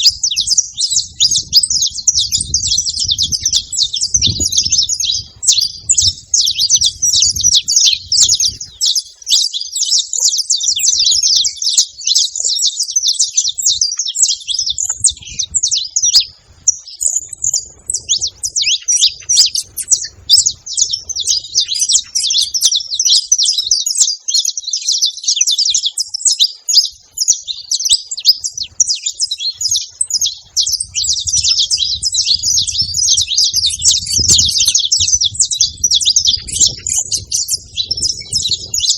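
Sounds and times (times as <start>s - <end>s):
finches singing and chirping: 0.0s - 38.9s.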